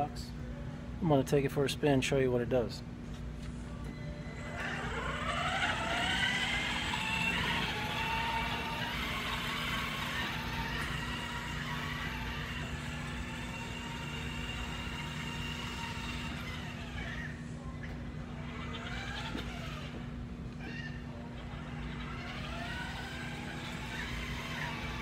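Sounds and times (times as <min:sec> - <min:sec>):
constant low hum: 0:00.0 - 0:25.0
electric motor whining: 0:04.2 - 0:25.0.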